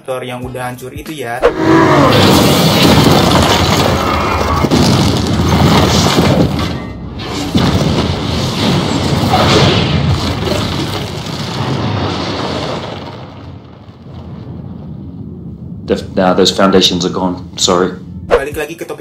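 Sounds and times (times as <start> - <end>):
booming explosions: 1.6 - 18.6.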